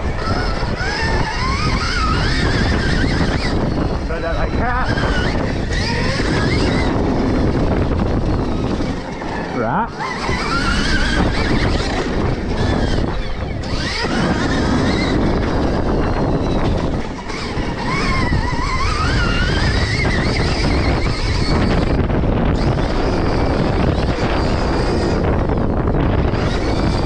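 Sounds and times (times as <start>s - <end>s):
electric motorbike motor whine: 0.0s - 27.0s
wind noise on microphone: 0.0s - 27.0s.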